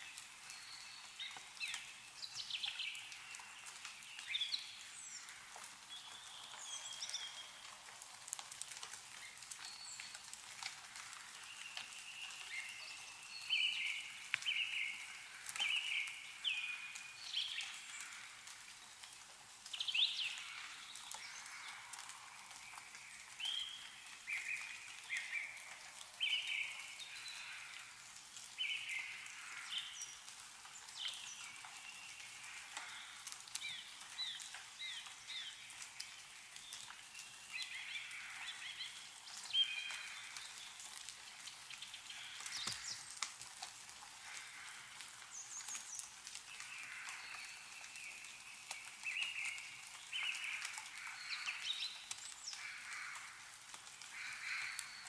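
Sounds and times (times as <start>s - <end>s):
meltwater dripping: 0.0s - 55.0s
small birds chirping: 0.1s - 43.5s, 44.2s - 55.0s.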